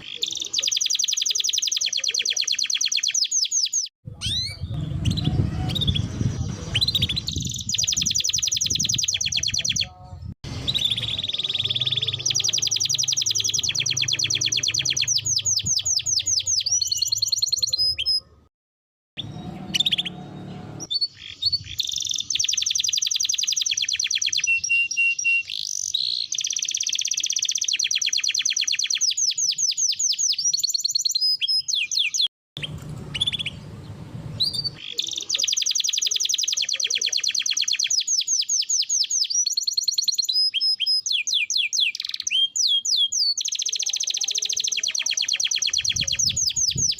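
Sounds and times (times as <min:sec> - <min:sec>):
canary singing trills: 0:00.0 - 0:18.5, 0:19.2 - 0:46.9.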